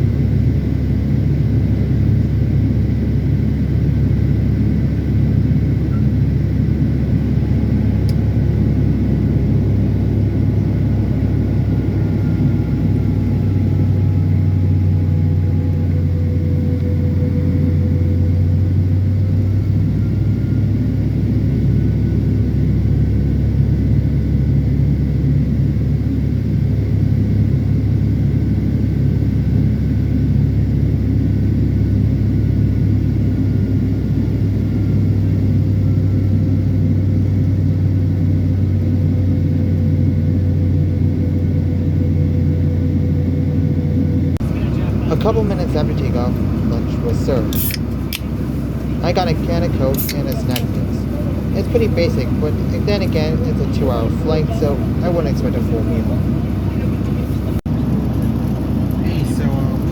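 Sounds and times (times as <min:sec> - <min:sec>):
faint whining tones: 0:00.0 - 0:31.7, 0:34.2 - 0:59.9
jet engine rumble: 0:00.0 - 0:59.9.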